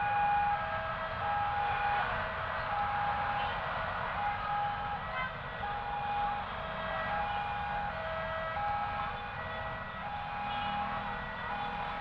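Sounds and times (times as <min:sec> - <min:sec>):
traffic noise: 0:00.0 - 0:12.0
two-tone siren: 0:00.0 - 0:12.0.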